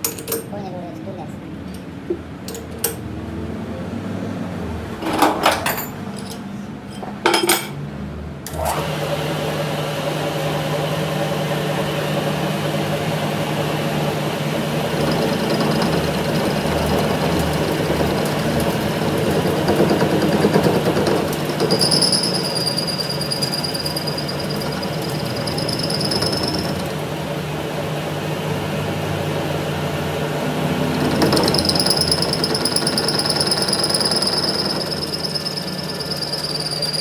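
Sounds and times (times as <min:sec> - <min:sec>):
low workshop hum: 0:00.0 - 0:37.0
metalworking machine running: 0:04.6 - 0:07.8, 0:08.4 - 0:37.0.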